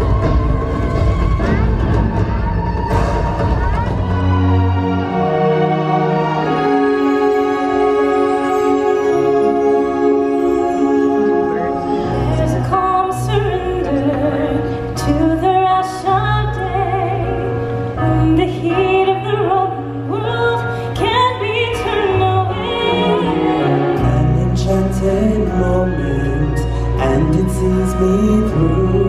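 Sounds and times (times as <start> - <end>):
song with sung melody: 2.6 - 29.0.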